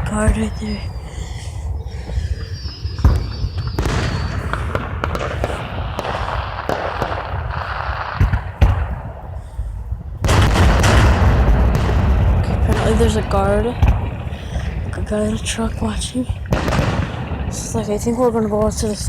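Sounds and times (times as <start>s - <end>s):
fireworks banging: 0.0s - 9.3s, 10.2s - 19.0s
fireworks crackling: 0.0s - 9.6s, 10.2s - 19.0s.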